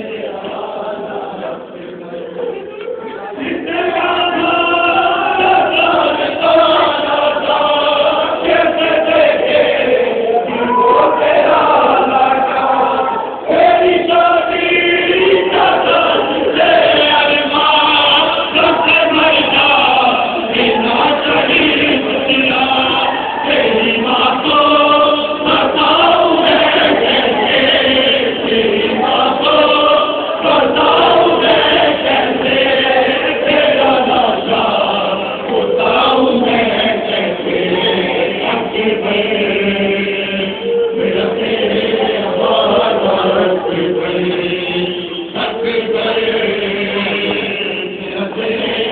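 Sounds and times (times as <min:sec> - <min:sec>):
group chanting a lament: 0:00.0 - 0:48.9.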